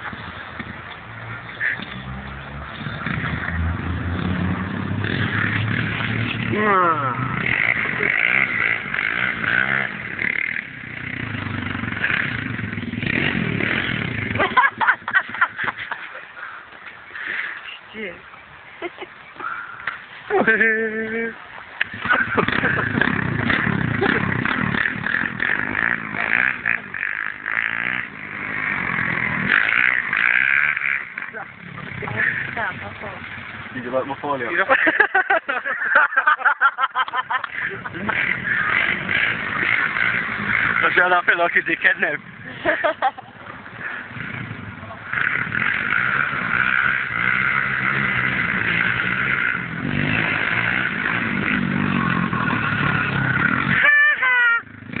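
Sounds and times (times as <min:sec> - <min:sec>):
pit bike engine revving: 0:00.0 - 0:18.1, 0:19.4 - 0:55.0.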